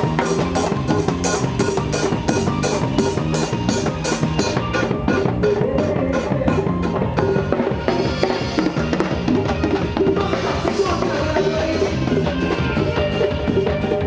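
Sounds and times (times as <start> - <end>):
drum kit steady beat: 0.0 - 14.0
worship band playing: 0.0 - 14.0.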